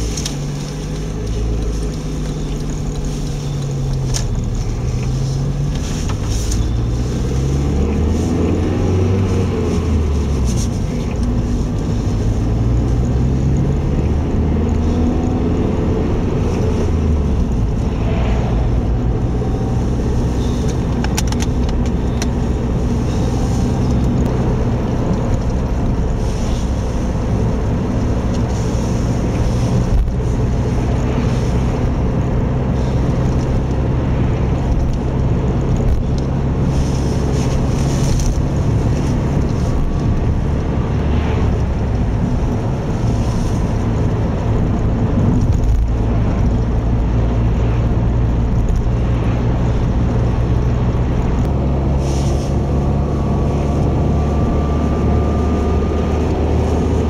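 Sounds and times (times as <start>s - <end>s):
car engine: 0.0s - 57.0s
road noise: 0.0s - 57.0s.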